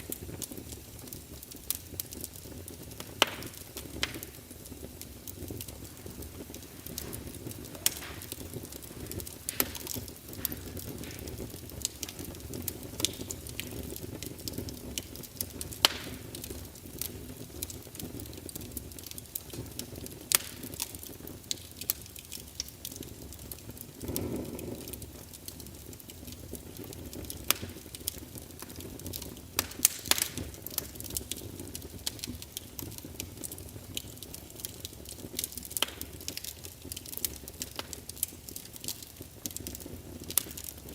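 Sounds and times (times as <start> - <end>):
fire low rumble: 0.0 - 40.9
fire pops and snaps: 0.0 - 40.9.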